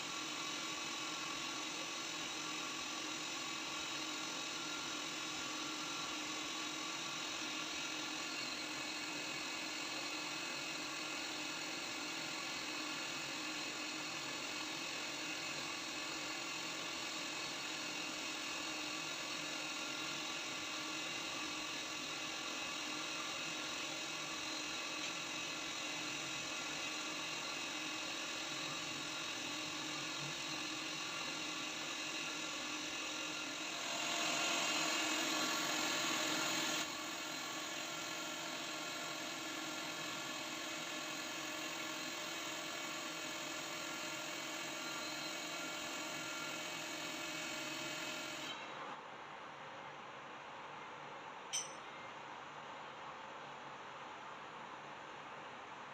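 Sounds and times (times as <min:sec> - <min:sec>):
cnc machine spindle whine: 0:00.0 - 0:49.0.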